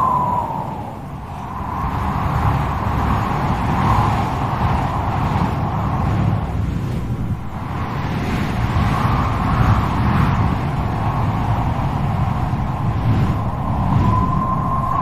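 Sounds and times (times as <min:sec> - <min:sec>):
strong gusty wind: 0:00.0 - 0:15.0
thin wavering wind whistle: 0:00.0 - 0:15.0.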